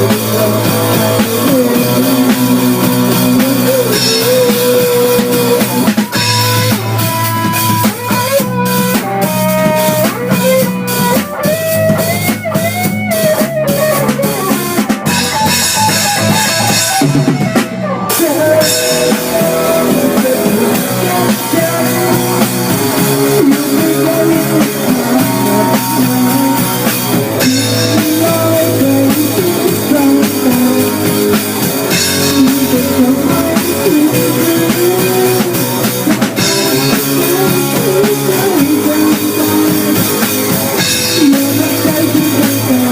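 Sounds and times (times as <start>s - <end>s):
cymbal-heavy drum fill: 0.0s - 42.9s
rock music on drums and guitar: 0.0s - 42.9s.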